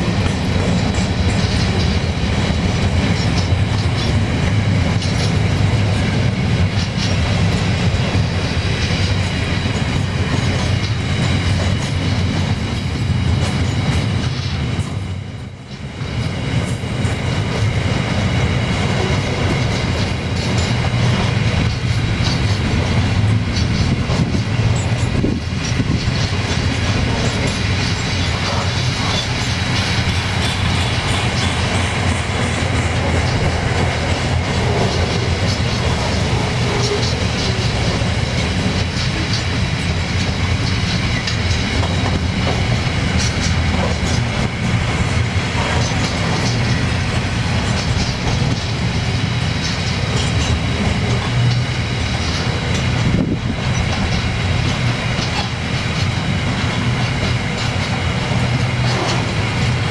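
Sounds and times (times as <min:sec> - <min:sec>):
freight wagons rumbling on rails: 0:00.0 - 0:59.9.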